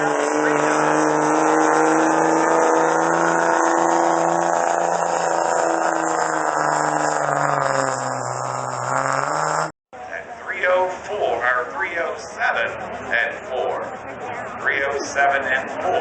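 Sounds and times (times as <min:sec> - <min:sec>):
diesel truck engine pulling hard: 0:00.0 - 0:16.0.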